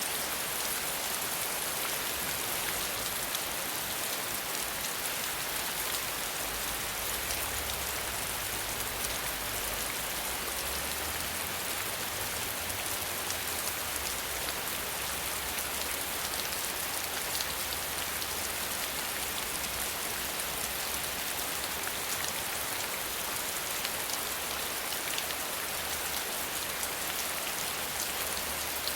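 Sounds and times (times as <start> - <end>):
steady rain falling: 0.0 - 28.9.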